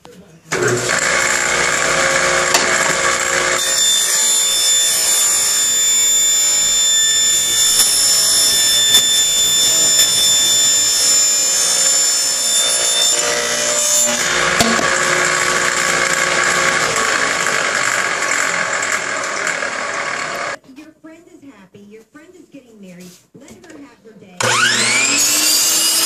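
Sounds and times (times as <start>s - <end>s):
table saw cutting plastic pipe: 0.5s - 20.6s, 24.4s - 26.0s.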